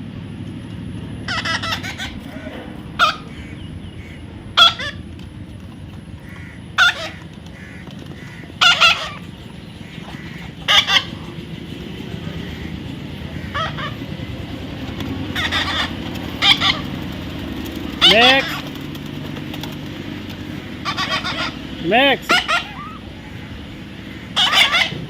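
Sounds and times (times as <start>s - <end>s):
steady low hum: 0.0s - 25.0s
parrot squawking: 1.2s - 5.1s, 6.2s - 17.1s, 17.8s - 18.7s, 20.5s - 25.0s.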